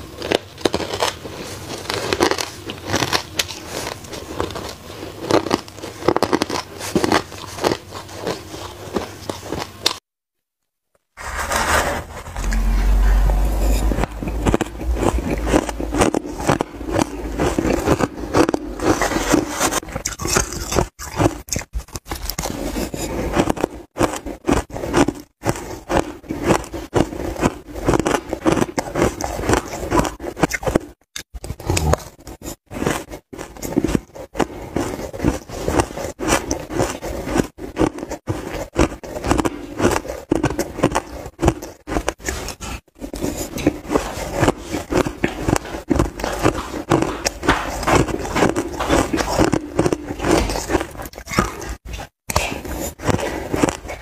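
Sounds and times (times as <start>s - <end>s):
crunching shaved ice: 0.0s - 10.0s, 13.8s - 30.9s, 31.6s - 51.8s.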